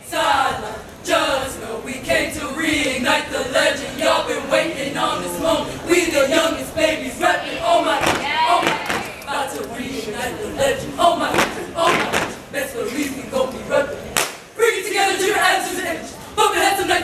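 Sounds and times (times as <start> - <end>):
people chanting in unison: 0.0 - 17.0.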